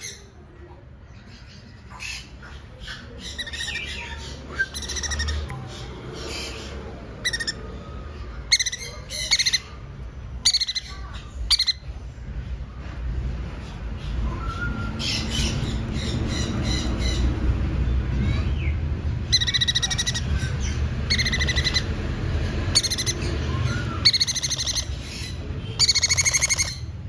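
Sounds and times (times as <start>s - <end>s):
parrot chicks squawking: 1.2s - 12.0s, 14.9s - 27.0s.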